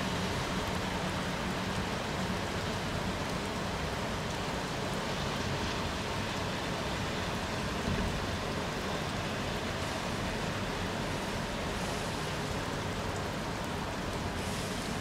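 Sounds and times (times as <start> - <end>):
rain falling into puddle: 0.0 - 15.0.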